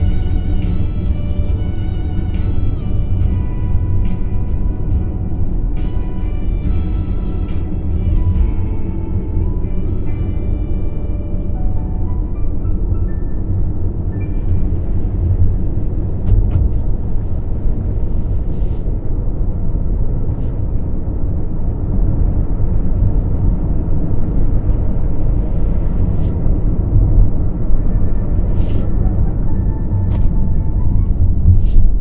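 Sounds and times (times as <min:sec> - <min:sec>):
car engine and tyres rumbling: 0:00.0 - 0:32.0.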